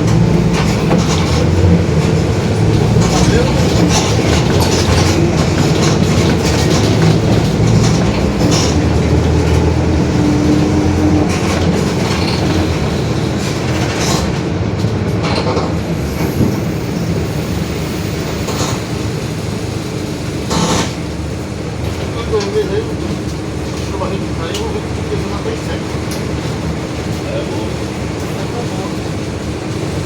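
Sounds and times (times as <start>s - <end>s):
bus engine and drivetrain running: 0.0s - 30.0s.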